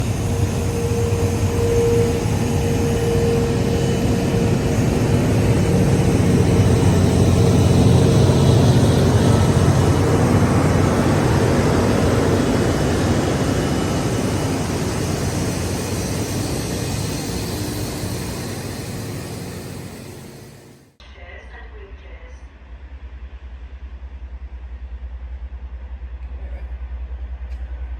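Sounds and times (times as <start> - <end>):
train passing: 0.0 - 27.9.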